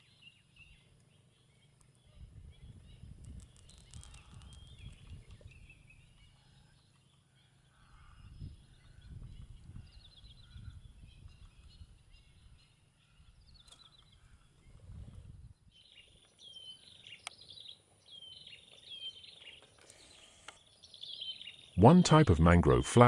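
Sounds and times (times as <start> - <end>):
wild birds calling: 0.0 - 15.0, 15.6 - 22.8.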